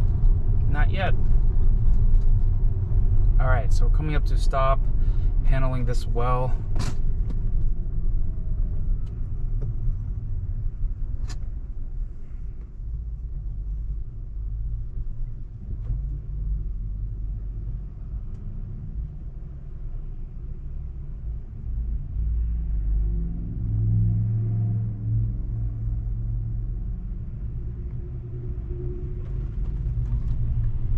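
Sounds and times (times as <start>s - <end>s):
road rumble inside car: 0.0s - 30.9s.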